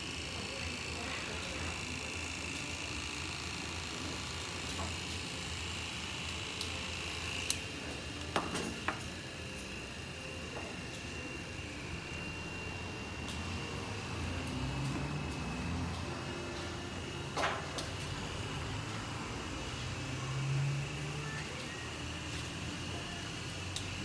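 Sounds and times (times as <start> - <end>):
electric machine hum: 0.0 - 24.0.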